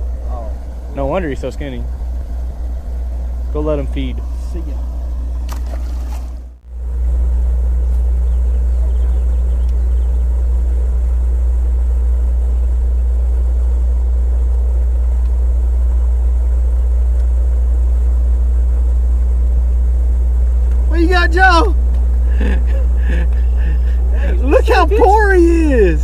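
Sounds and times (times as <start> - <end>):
boat engine hum: 0.0 - 26.0.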